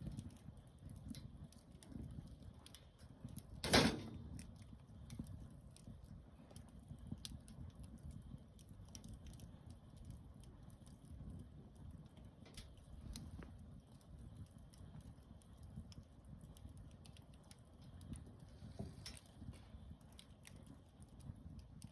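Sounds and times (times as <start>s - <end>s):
campfire crackling: 0.0s - 21.9s
loud fire crack: 0.0s - 21.9s.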